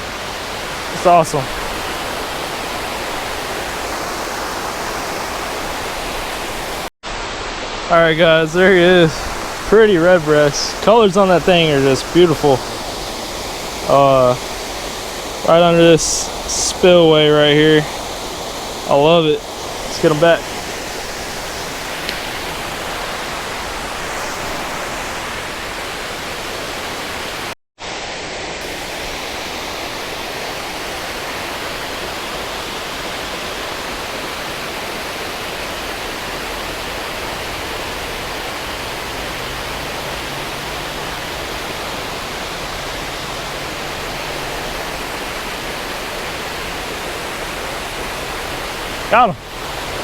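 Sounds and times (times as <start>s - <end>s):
water rushing over spillway: 0.0s - 50.0s.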